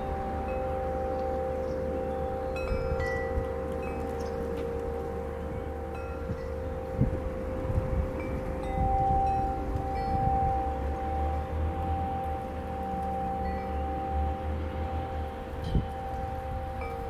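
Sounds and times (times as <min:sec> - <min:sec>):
soft bell-like chimes: 0:00.0 - 0:17.0
wind rumble on microphone: 0:00.0 - 0:17.0.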